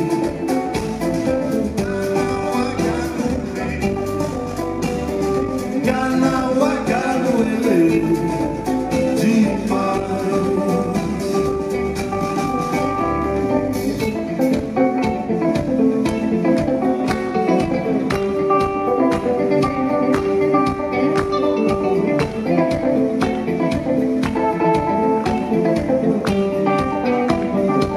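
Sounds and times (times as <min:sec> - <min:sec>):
drum beat: 0:00.0 - 0:27.9
electric guitar: 0:00.0 - 0:27.9.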